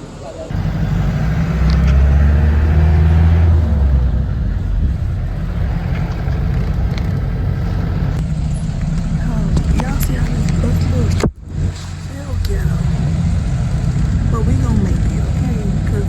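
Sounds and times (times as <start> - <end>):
bus engine humming: 0.0 - 16.0.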